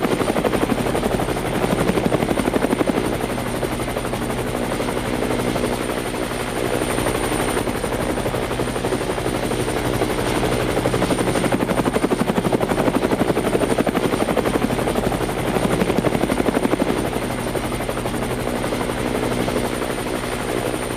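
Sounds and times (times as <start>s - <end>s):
helicopter engine and turbine: 0.0s - 20.9s
helicopter rotor blades beating: 0.0s - 20.9s.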